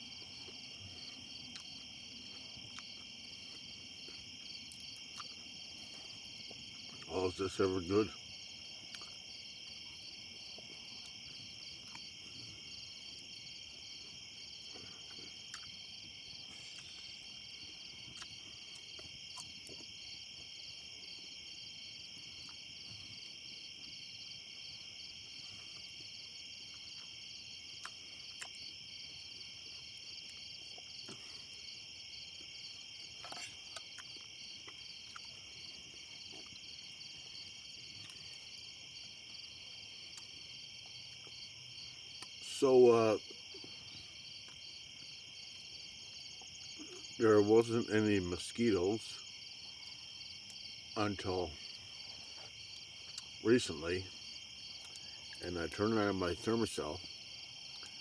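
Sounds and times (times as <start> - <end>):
night insects chorus: 0.0 - 58.0.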